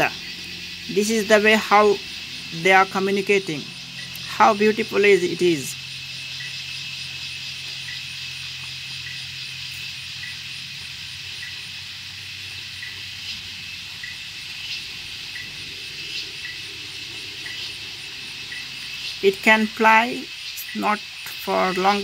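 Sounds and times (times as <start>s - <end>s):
faint insect chirp: 0.0s - 22.0s
insects shrilling: 0.0s - 22.0s.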